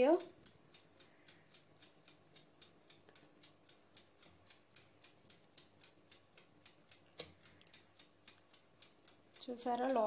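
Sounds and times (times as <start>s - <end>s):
faint regular ticking: 0.0s - 10.0s.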